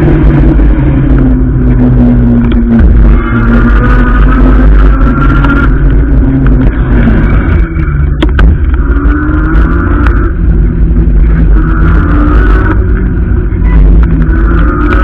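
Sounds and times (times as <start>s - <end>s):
electric motor whine: 0.0s - 15.0s
road noise: 0.0s - 15.0s
wind rumble on microphone: 0.0s - 15.0s.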